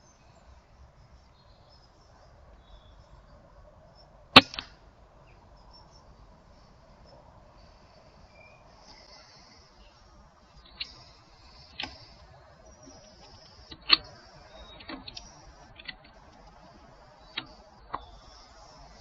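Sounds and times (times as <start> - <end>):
faint high hiss: 0.0 - 19.0.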